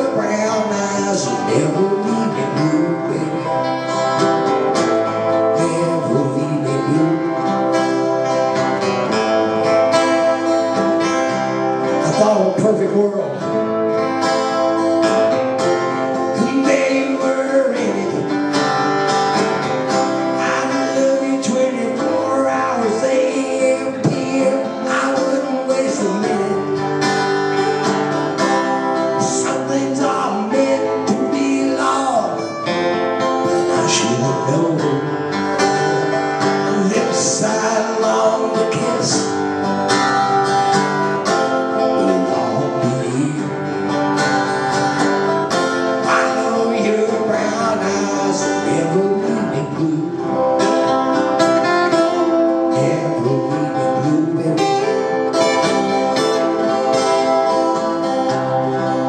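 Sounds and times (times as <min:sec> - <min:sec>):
acoustic guitars strumming: 0:00.0 - 0:59.0
person singing: 0:00.0 - 0:59.0.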